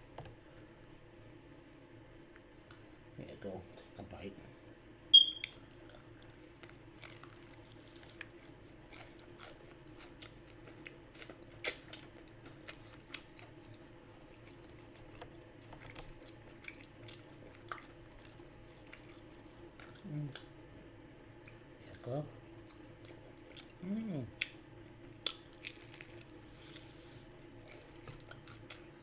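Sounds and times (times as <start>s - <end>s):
person chewing a sandwich: 0.1s - 2.9s, 4.6s - 29.0s.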